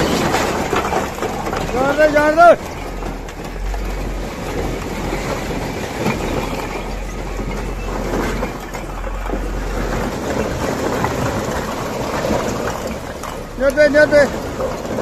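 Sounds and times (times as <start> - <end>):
bricks clattering on steel: 0.0 - 15.0
truck engine hum: 0.0 - 15.0.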